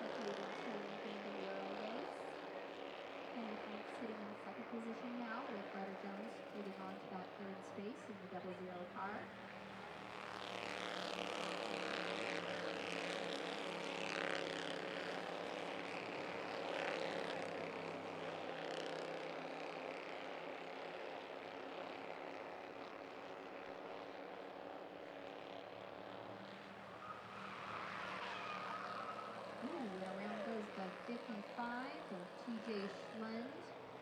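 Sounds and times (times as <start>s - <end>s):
race car engines droning: 0.0s - 34.0s.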